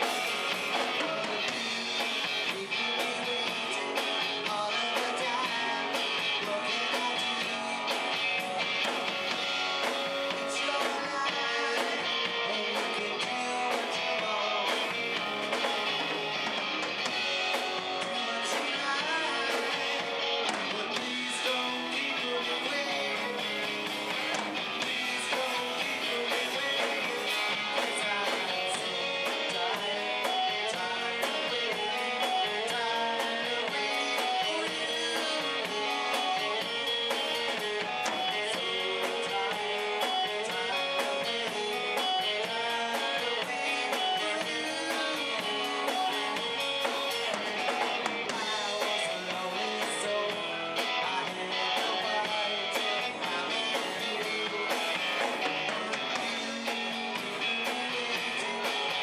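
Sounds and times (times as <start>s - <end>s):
drum kit beats: 0.0s - 59.0s
electric bass: 0.0s - 59.0s
electric guitar: 0.0s - 59.0s.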